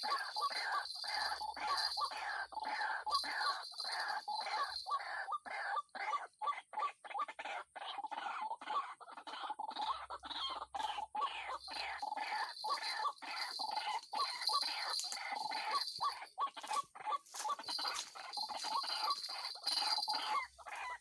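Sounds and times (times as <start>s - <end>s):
bird clucking calls: 0.0s - 21.0s.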